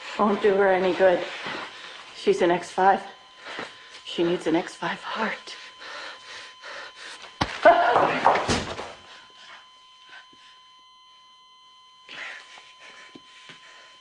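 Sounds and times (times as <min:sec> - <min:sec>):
steady high electronic monitor tone: 0:00.0 - 0:14.0.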